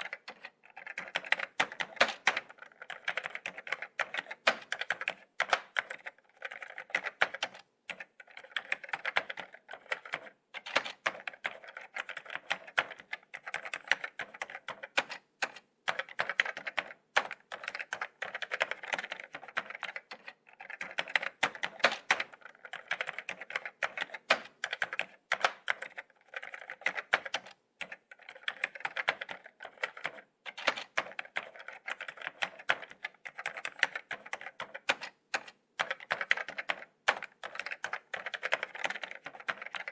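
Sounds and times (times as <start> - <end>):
laptop keyboard typing: 0.0 - 39.9.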